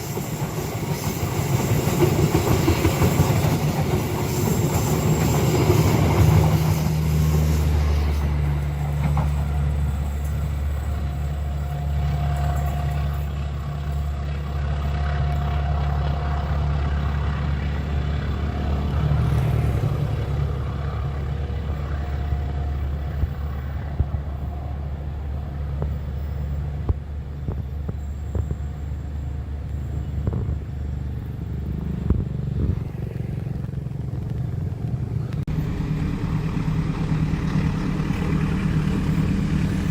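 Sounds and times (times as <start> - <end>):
passing train: 0.0 - 39.9
low engine rumble: 6.0 - 39.9.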